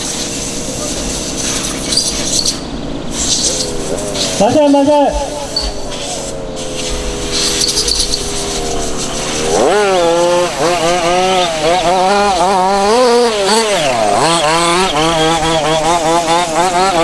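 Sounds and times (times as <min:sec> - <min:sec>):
small two-stroke engine revving: 0:00.0 - 0:17.0.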